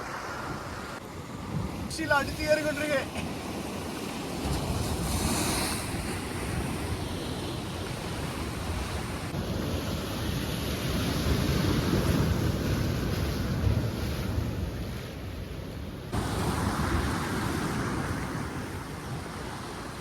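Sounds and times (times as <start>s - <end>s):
surf breaking on beach: 0.0s - 15.4s, 16.1s - 20.0s.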